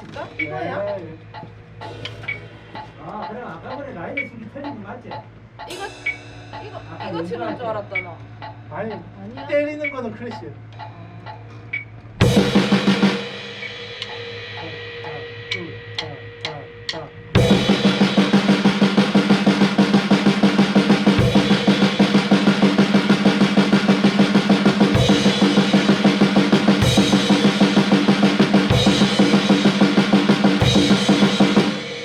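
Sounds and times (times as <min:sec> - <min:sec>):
drum kit playing fast beat: 0:00.0 - 0:03.5, 0:05.6 - 0:08.1, 0:12.2 - 0:32.0.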